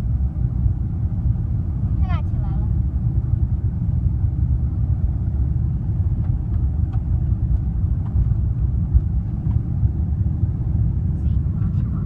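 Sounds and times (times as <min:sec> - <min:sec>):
jet engines rumbling: 0:00.0 - 0:12.0
wheels rolling on taxiway: 0:00.0 - 0:12.0.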